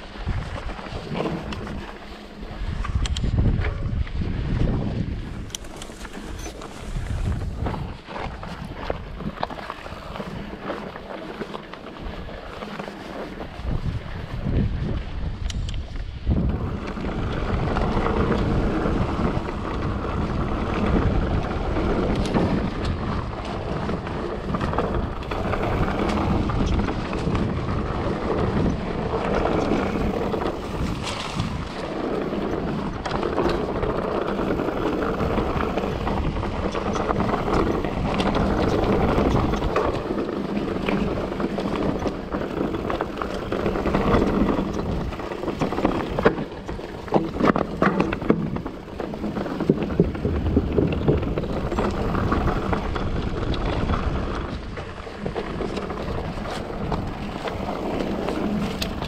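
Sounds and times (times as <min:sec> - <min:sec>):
bike knocks and rattles: 0:00.0 - 0:59.0
bike tyres on rough trail: 0:00.0 - 0:59.0
wind on microphone: 0:00.0 - 0:59.0.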